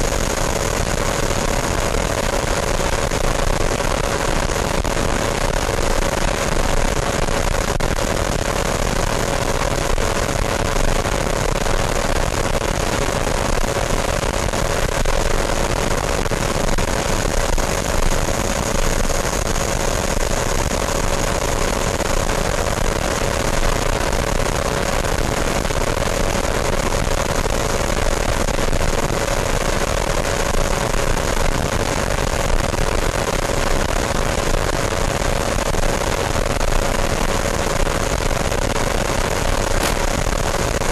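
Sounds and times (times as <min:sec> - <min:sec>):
ducted fan whine: 0:00.0 - 0:40.9.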